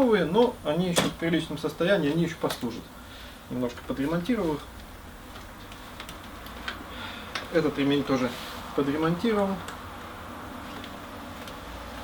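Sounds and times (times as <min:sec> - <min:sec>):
low hum and faint hiss: 0:00.0 - 0:12.0.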